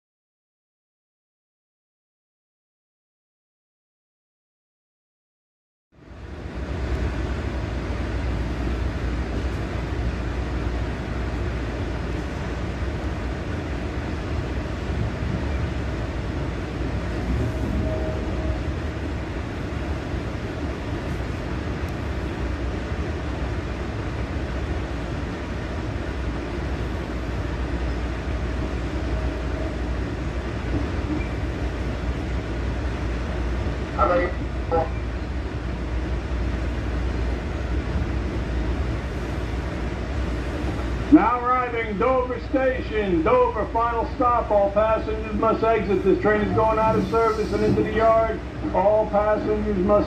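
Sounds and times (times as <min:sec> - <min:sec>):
commuter train rumbling: 0:05.9 - 0:50.0.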